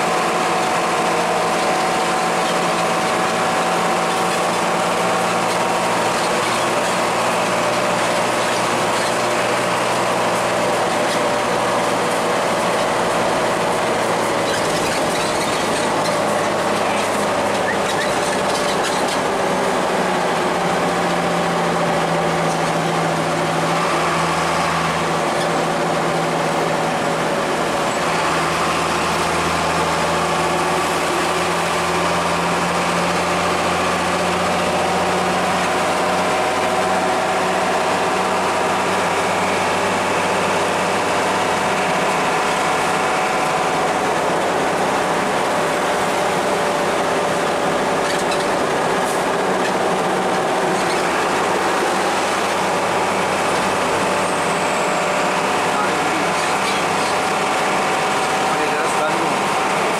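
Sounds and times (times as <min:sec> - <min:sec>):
bus engine drone: 0:00.0 - 0:59.9
road and wind noise: 0:00.0 - 0:59.9.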